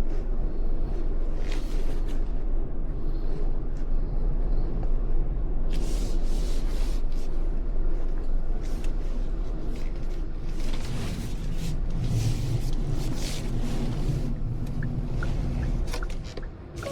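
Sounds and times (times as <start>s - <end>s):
road and engine rumble: 0.0s - 16.9s.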